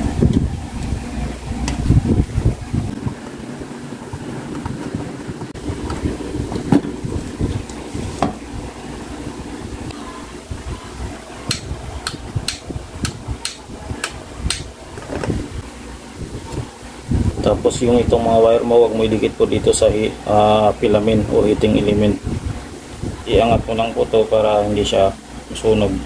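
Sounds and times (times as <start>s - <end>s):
steady background hiss: 0.8s - 26.0s.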